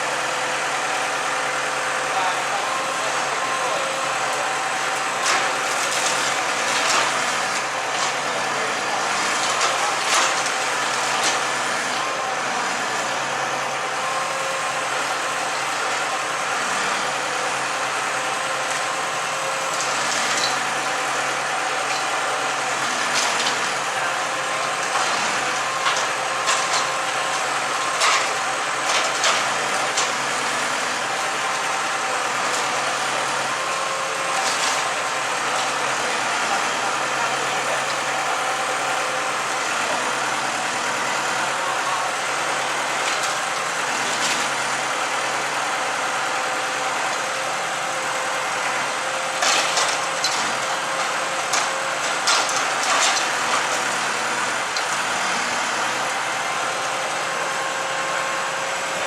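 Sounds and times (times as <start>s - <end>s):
bonfire flames roaring: 0.2s - 59.0s.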